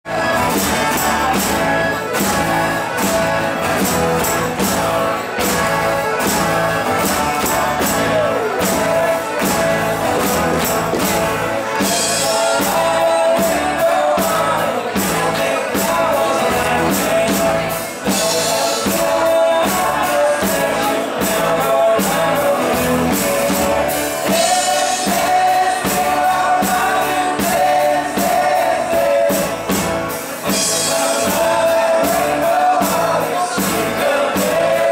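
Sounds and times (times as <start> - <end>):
electric bass: 0.0 - 34.9
electric guitar: 0.1 - 34.9
steady drum beat: 0.1 - 34.9
sung vocals: 0.1 - 34.9.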